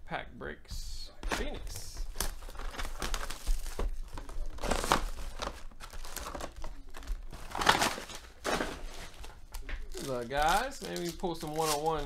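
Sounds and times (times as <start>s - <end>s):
foil wrappers crinkling: 1.4s - 12.0s.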